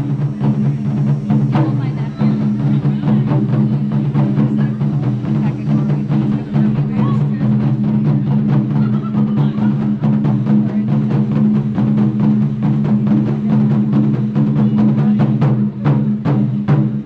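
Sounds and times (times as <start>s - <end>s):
sustained low boom: 0.0s - 16.2s
taiko drum strokes: 0.0s - 17.0s.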